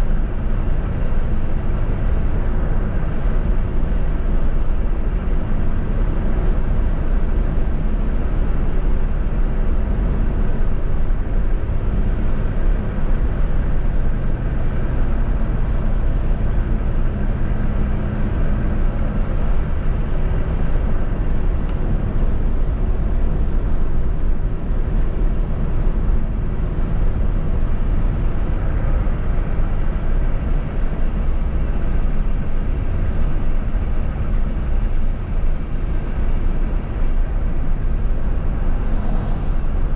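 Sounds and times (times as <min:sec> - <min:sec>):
vehicle road and engine noise: 0:00.0 - 0:39.9.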